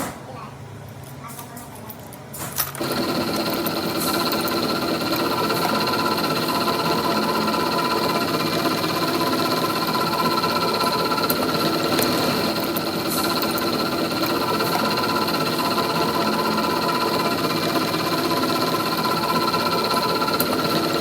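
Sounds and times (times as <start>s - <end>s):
metalworking machine whining and rattling: 2.4s - 21.0s.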